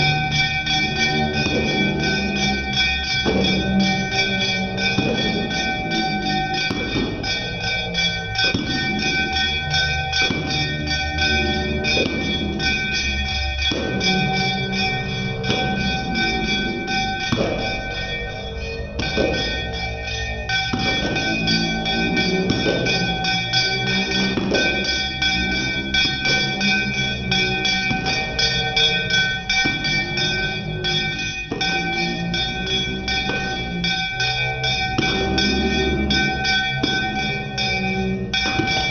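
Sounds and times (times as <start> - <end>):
hand bell ringing: 0.0 - 38.9.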